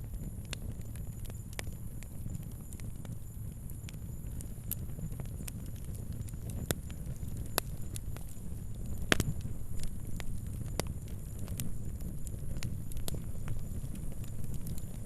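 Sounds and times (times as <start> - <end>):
fire crackling and popping: 0.0 - 15.0
low rumble of flame: 0.0 - 15.0.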